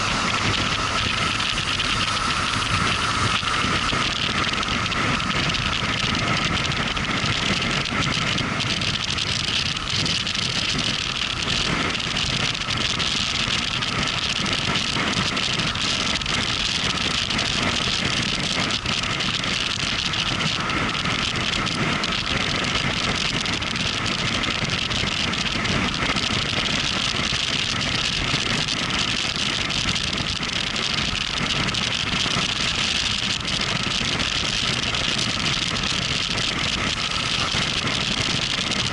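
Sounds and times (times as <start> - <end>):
motorcycle engine running: 0.0 - 38.9
road noise: 0.0 - 38.9
wind noise: 0.0 - 38.9.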